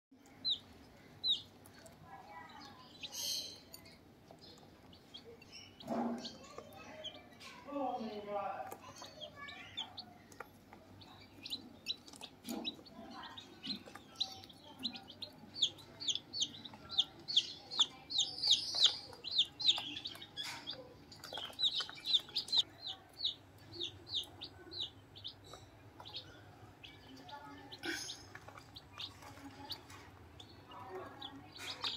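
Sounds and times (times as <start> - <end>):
chicks peeping: 0.1 - 31.9.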